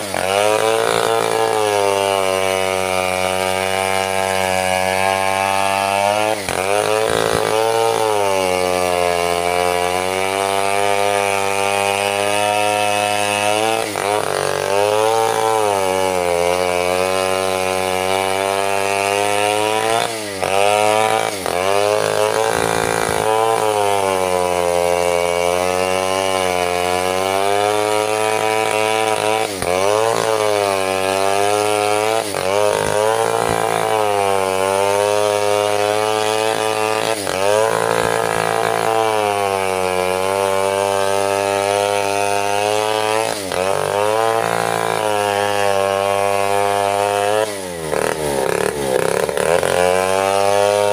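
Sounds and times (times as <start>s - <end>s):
chainsaw cutting through log: 0.0s - 50.9s.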